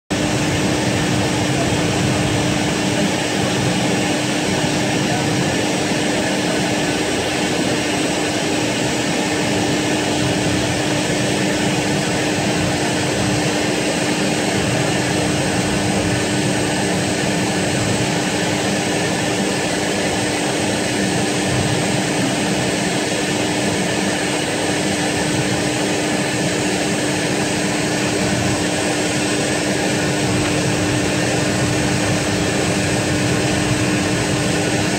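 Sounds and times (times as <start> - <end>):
airliner turbine running: 0.1 - 34.9.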